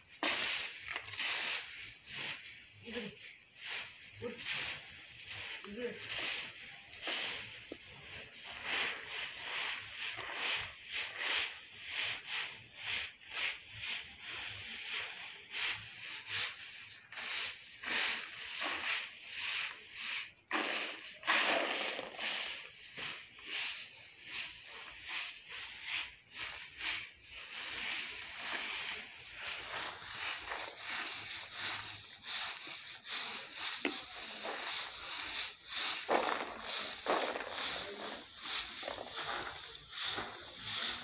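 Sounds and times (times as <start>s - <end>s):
seed sliding over plastic: 0.0s - 41.0s.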